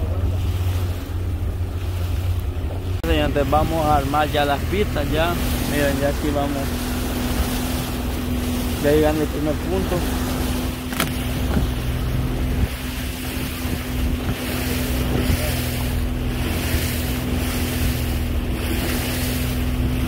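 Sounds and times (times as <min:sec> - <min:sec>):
boat motor humming: 0:00.0 - 0:20.0
wind buffeting microphone: 0:00.0 - 0:20.0.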